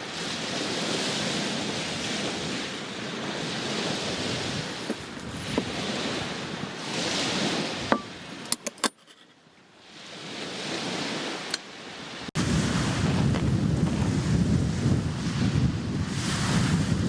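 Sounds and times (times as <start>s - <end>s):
wind rumble on microphone: 0.0s - 9.2s, 9.8s - 17.0s
small waves washing on shore: 0.0s - 17.0s.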